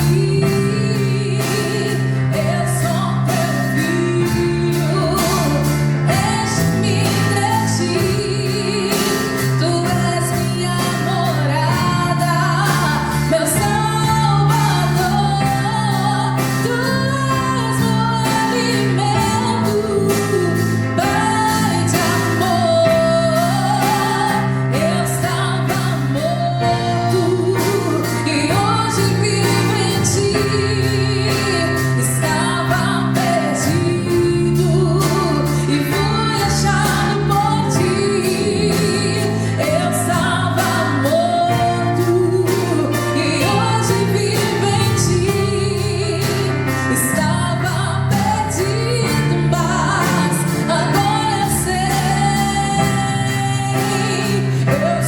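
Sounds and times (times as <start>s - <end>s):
live band playing: 0.0s - 55.0s
woman singing: 0.0s - 55.0s.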